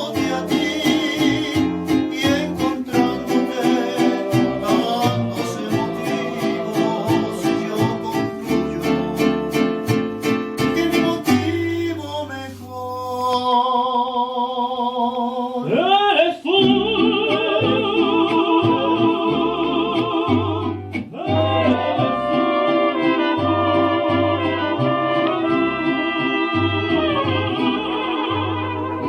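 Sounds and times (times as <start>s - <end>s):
strummed guitars: 0.0s - 13.5s, 15.6s - 29.0s
mariachi band playing: 0.0s - 13.6s, 15.7s - 29.0s.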